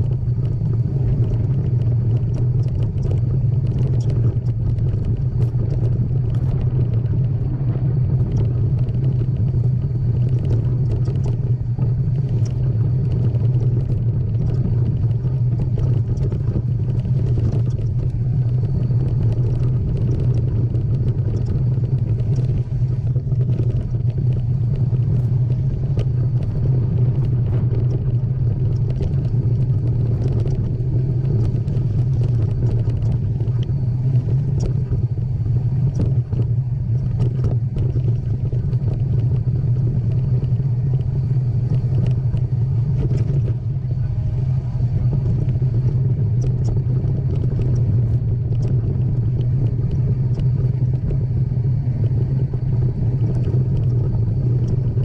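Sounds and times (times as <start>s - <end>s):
light clicks and rattles: 0.0s - 55.0s
low motion rumble: 0.0s - 55.0s.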